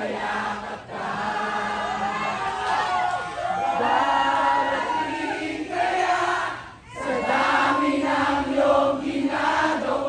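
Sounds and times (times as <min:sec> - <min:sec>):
crowd singing along: 0:00.0 - 0:10.0.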